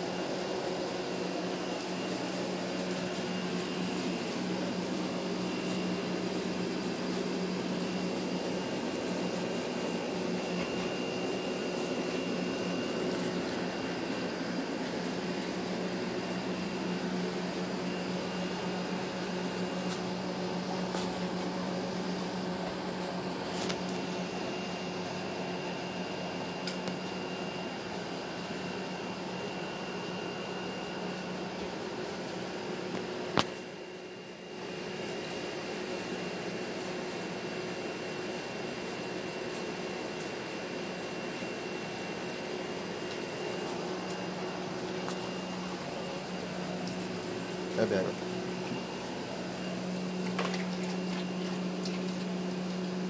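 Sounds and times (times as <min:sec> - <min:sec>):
faint high whine: 0:00.0 - 0:53.0.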